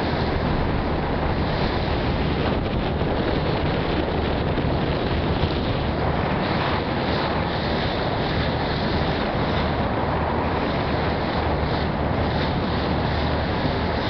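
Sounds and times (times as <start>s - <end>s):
water rushing along hull: 0.0s - 14.0s
wind buffeting microphone: 0.0s - 14.0s.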